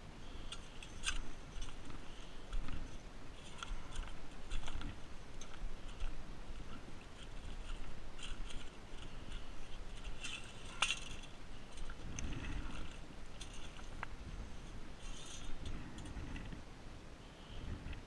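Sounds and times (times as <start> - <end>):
stones and gravel crunching: 0.3 - 16.0.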